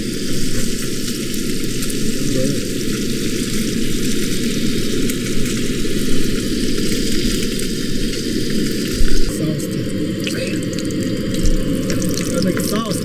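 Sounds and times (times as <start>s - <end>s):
camp stove low rumble: 0.0s - 13.0s
food sizzling in oil: 0.0s - 13.0s.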